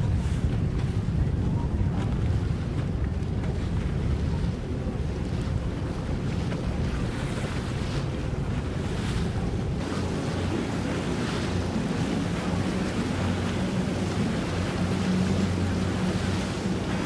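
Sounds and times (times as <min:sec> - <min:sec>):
boat engine humming: 0:00.0 - 0:17.0
water washing from hull: 0:00.0 - 0:17.0
wind buffeting microphone: 0:00.0 - 0:17.0.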